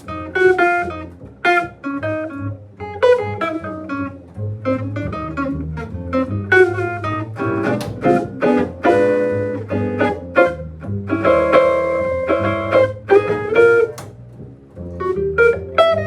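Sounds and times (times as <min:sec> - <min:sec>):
plucked guitar notes: 0:00.0 - 0:16.0
steady bass line: 0:00.0 - 0:16.0.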